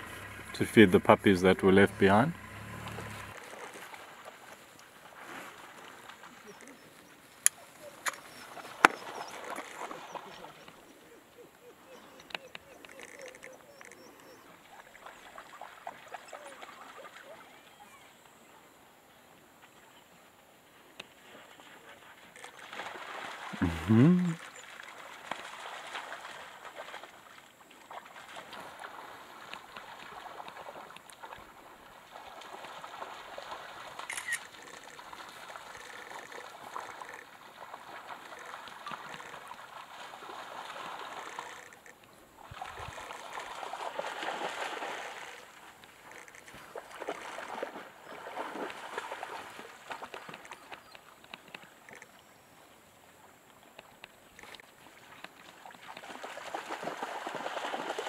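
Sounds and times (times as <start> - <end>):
animals splashing through water: 0.0 - 18.1, 21.0 - 52.5, 54.3 - 58.0.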